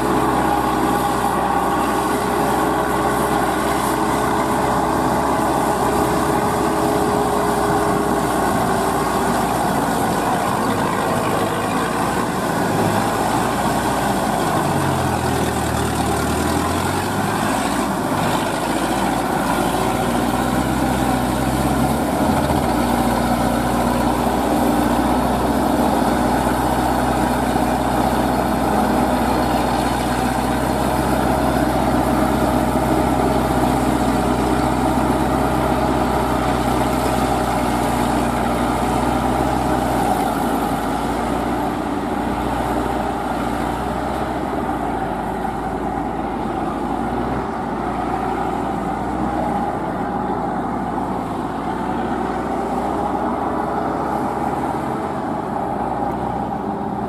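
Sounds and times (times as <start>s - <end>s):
tiller engine running: 0.0s - 57.0s.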